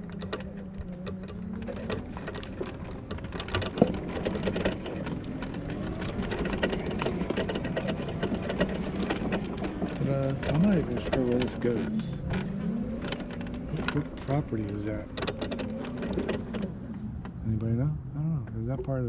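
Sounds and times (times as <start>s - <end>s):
electric motor whine: 0.0s - 17.3s.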